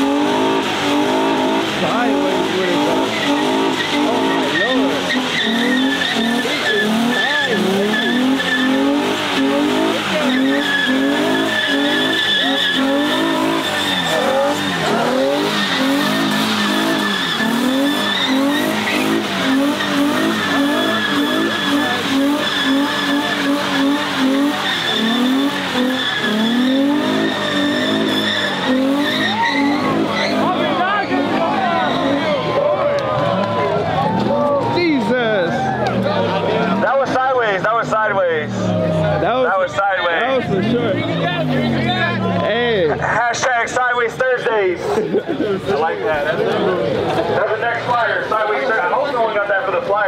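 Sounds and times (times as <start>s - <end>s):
car engine revving: 0.0s - 50.0s
high tyre squeal: 0.0s - 50.0s.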